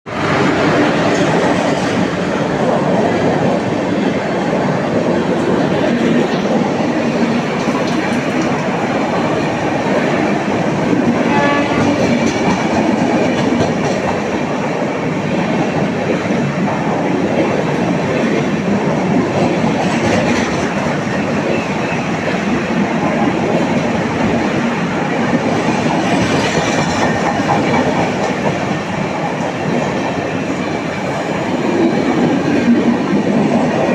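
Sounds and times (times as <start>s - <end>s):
train wheels rumbling and clicking: 0.1s - 33.9s.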